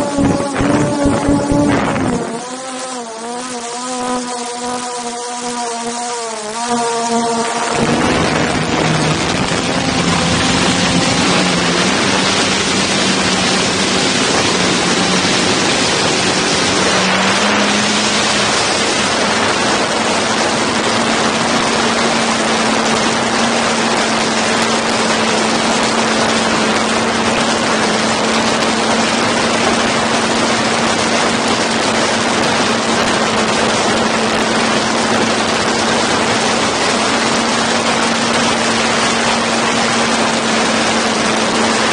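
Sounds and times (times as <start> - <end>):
drone propellers whirring: 0.0 - 41.9.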